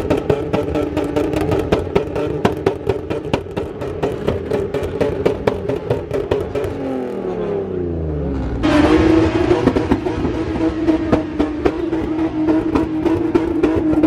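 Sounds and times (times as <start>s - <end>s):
exhaust cracks: 0.0s - 7.4s, 8.2s - 14.0s
car engine revving: 0.0s - 14.0s.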